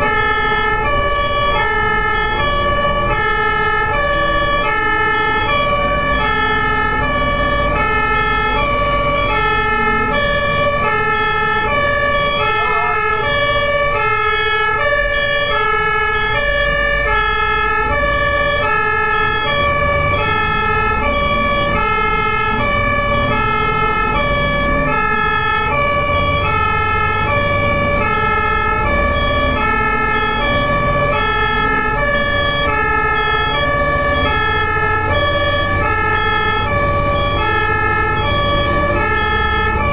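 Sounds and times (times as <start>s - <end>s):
engine and road rumble: 0.0s - 39.9s
two-tone emergency siren: 0.0s - 39.9s.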